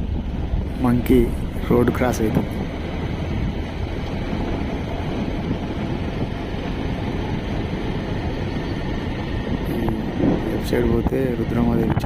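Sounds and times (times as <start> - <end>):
engine and road rumble: 0.0 - 12.0
wind rushing over microphone: 0.0 - 12.0.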